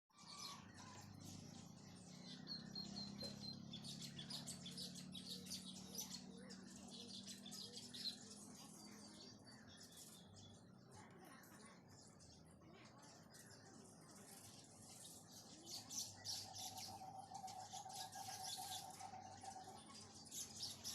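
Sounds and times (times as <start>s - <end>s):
small birds chirping: 0.1s - 20.9s.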